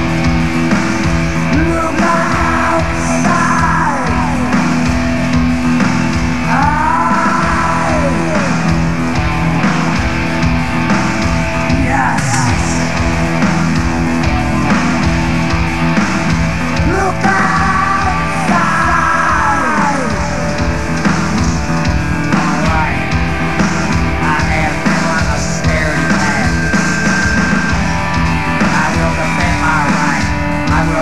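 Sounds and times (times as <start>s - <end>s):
distorted electric guitar: 0.0s - 31.0s
pounding drum kit: 0.0s - 31.0s.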